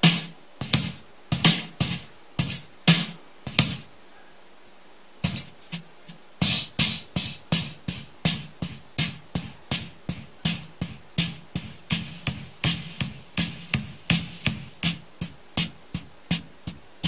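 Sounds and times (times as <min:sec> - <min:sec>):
drum machine beat: 0:00.0 - 0:03.9, 0:05.2 - 0:17.0.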